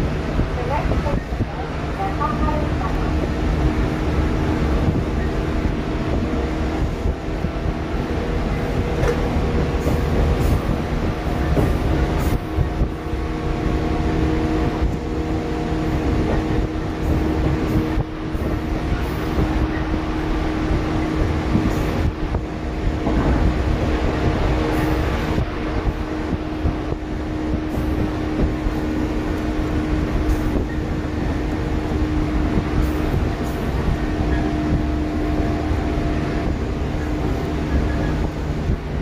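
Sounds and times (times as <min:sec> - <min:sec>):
electric train motor hum: 0:00.0 - 0:39.0
train wheels rumbling on rail: 0:00.0 - 0:39.0.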